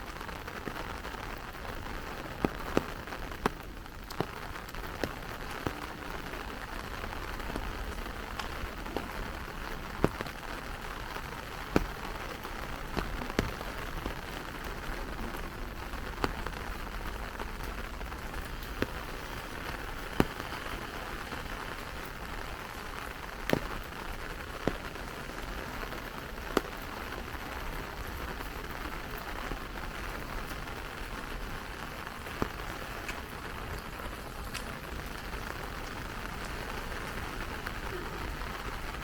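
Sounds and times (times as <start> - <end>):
light rain on an umbrella: 0.0 - 39.0.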